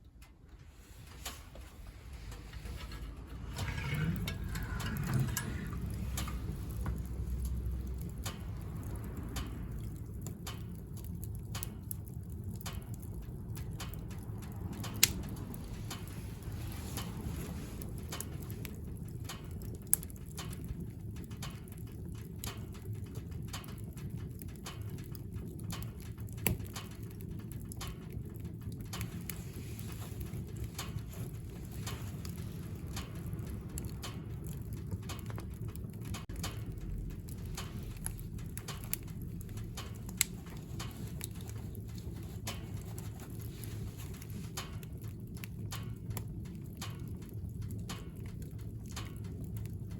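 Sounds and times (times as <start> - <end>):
firewood crackling and popping: 0.0 - 49.9
wood stove fire rumbling: 0.0 - 49.9.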